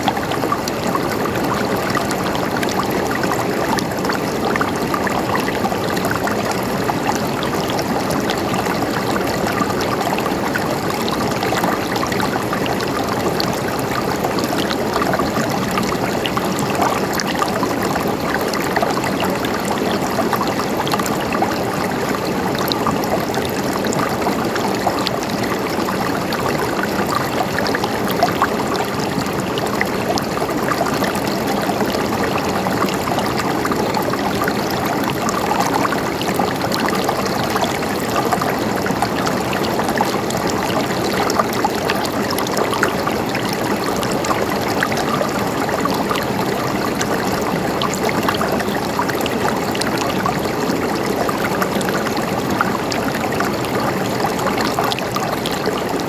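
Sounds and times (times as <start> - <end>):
stream flowing: 0.0 - 56.0
water splashes and trickles: 0.0 - 56.0.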